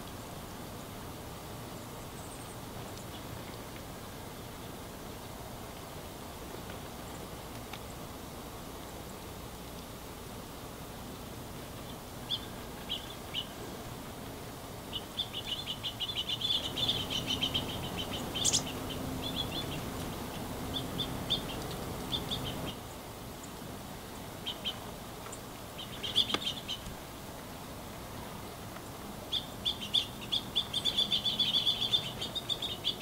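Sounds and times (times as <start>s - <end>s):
small songbirds chirping: 1.7s - 8.1s, 11.2s - 27.1s, 28.7s - 33.0s.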